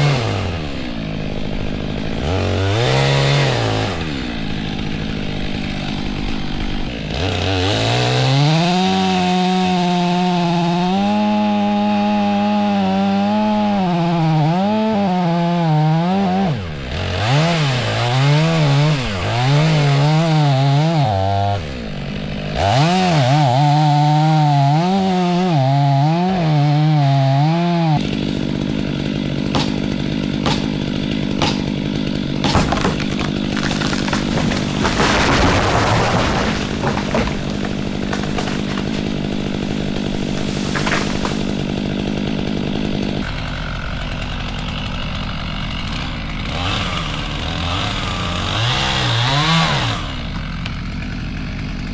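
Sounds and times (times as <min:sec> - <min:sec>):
chainsaw cutting tree trunk: 0:00.0 - 0:51.9.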